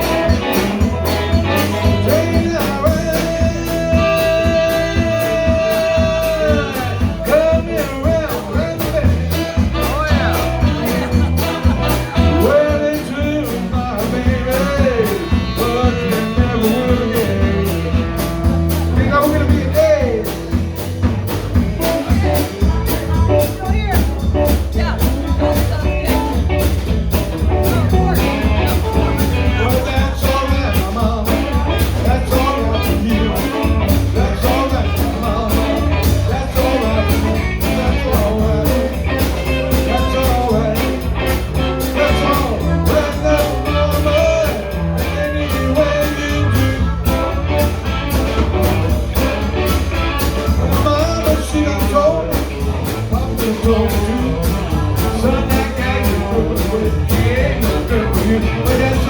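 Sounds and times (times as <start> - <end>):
bass guitar: 0.0 - 59.0
drum beat: 0.0 - 59.0
electric guitar: 0.0 - 59.0.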